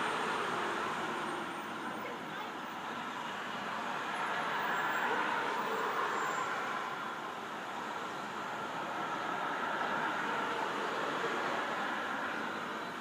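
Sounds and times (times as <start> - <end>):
cars passing on a street: 0.0 - 13.0.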